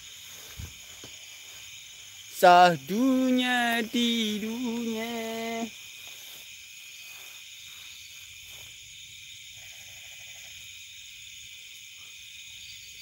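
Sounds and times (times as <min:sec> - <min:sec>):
faint pulsing insect call: 0:00.0 - 0:13.0
insect chorus chirring: 0:00.0 - 0:13.0.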